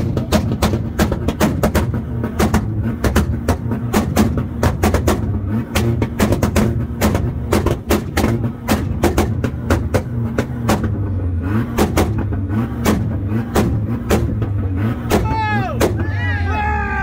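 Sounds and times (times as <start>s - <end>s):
exhaust pops: 0.0s - 16.2s
engine drone: 0.0s - 17.0s.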